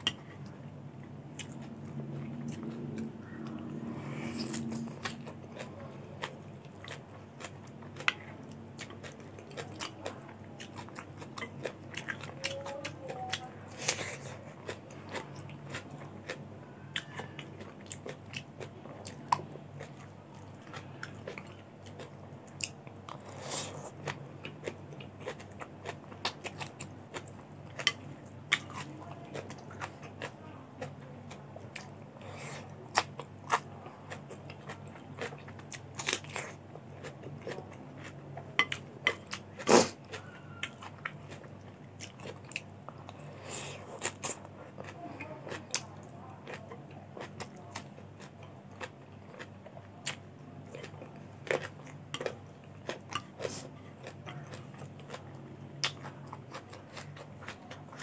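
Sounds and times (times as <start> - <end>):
chewing crisp vegetables: 0.0 - 58.0.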